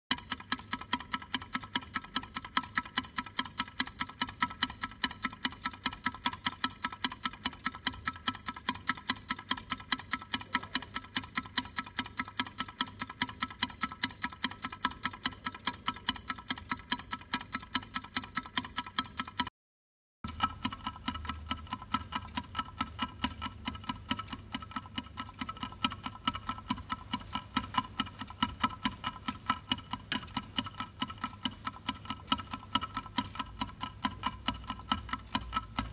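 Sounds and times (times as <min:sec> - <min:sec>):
clock ticking: 0:00.1 - 0:19.5, 0:20.2 - 0:35.9.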